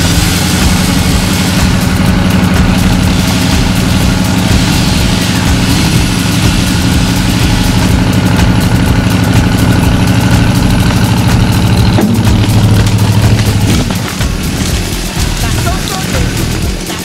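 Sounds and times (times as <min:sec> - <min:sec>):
truck engine running at low revs: 0:00.0 - 0:17.0.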